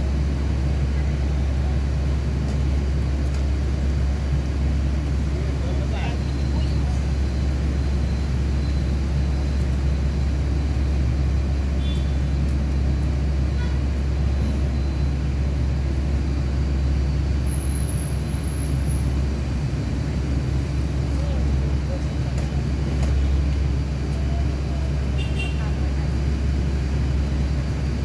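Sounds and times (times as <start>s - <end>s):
heavy machine engine rumbling: 0.0s - 28.0s.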